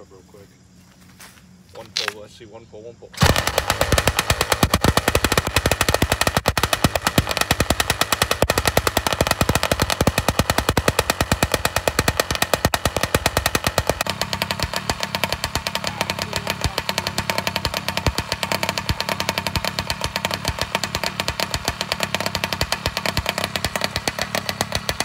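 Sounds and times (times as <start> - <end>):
two-stroke engine popping: 3.2 - 25.0.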